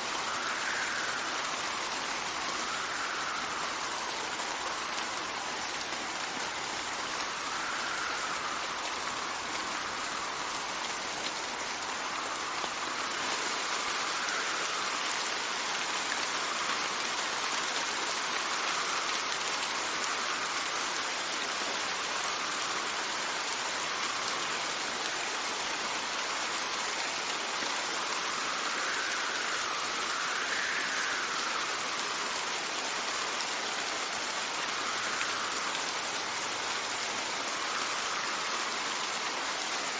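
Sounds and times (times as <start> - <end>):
rain hissing and pattering: 0.0 - 39.9
wind gusts: 0.0 - 39.9.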